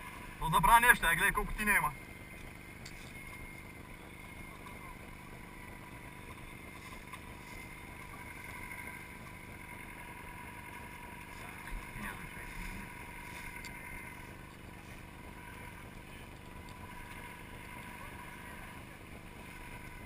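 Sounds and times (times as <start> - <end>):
faint steady whine: 0.0 - 20.0
vehicle engine running at low revs: 0.0 - 20.0.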